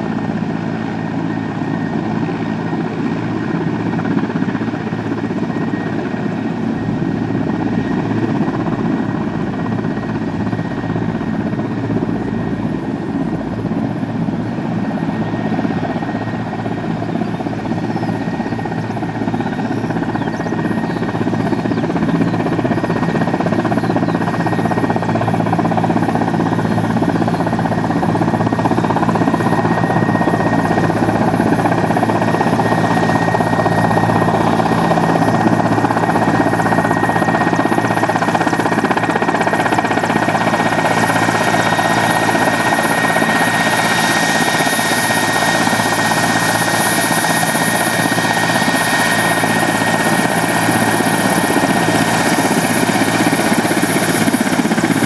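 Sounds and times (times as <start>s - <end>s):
helicopter turbine whine: 0.0s - 55.0s
rotor and engine drone: 0.0s - 55.0s.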